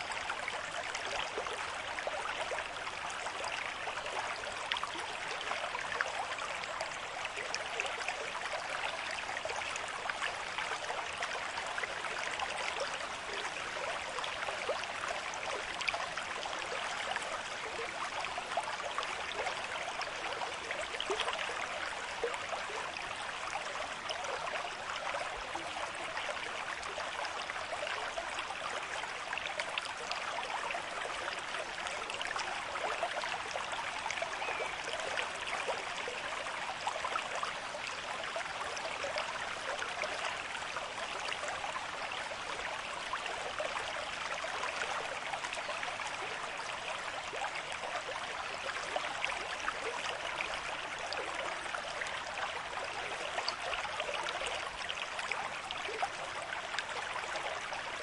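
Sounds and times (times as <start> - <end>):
stream water over stones: 0.0 - 58.0.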